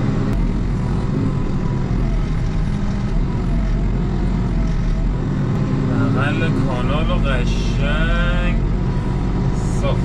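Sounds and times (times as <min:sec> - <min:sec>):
diesel engine under load: 0:00.0 - 0:10.0
hydraulics working: 0:00.0 - 0:10.0.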